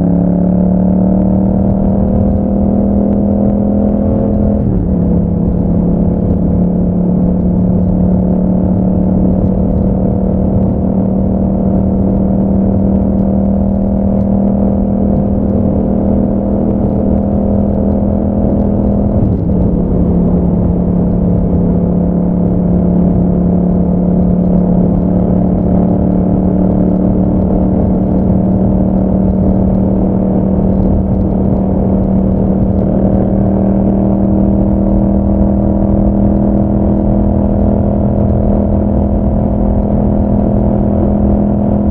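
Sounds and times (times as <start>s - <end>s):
motorcycle engine at steady throttle: 0.0s - 41.9s.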